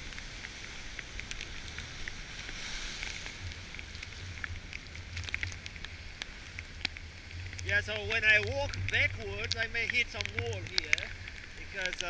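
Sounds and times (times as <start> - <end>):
ocean surf: 0.0 - 12.0
wind: 0.0 - 12.0
sea spray ticking on case: 0.2 - 12.0.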